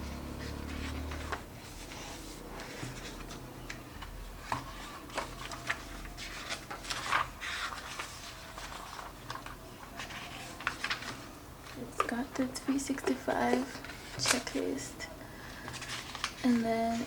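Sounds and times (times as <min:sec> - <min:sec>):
paper pages rustling: 0:00.0 - 0:17.0.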